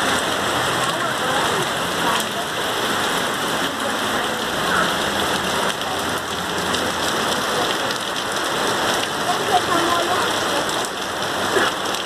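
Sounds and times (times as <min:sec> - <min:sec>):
rain falling on pavement: 0:00.0 - 0:12.0.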